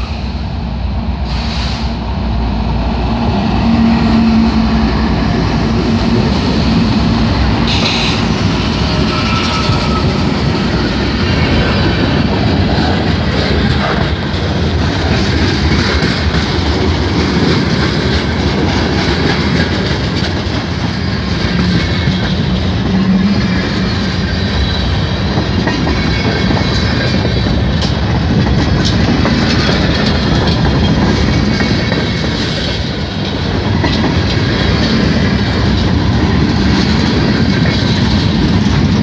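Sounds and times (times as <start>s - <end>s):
diesel locomotive engines: 0.0s - 39.0s
freight cars rolling on rails: 0.0s - 39.0s.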